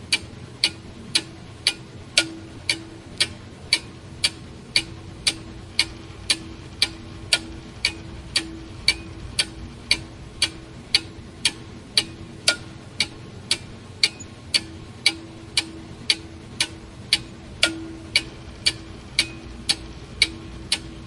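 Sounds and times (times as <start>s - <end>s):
clock ticking: 0.0s - 21.0s.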